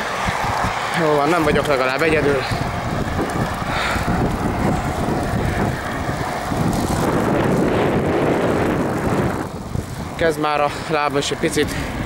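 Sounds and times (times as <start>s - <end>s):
van engine and tyres on asphalt: 0.0s - 12.0s
wind rushing over microphone: 0.0s - 12.0s.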